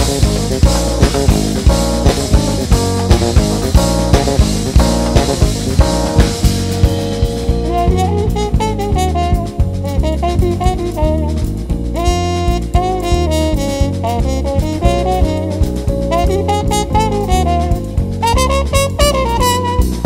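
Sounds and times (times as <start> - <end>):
instrumental music with drum beat: 0.0 - 20.0.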